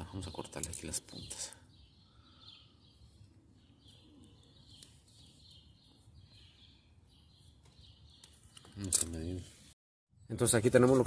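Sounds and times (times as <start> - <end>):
faint bird chirps: 0.0 - 9.5.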